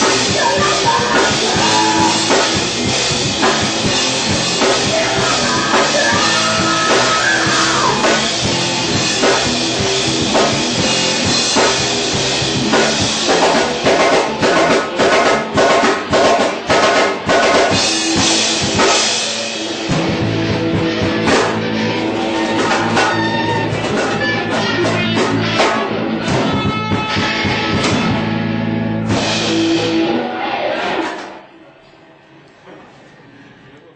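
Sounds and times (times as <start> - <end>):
live rock band playing: 0.0 - 31.5.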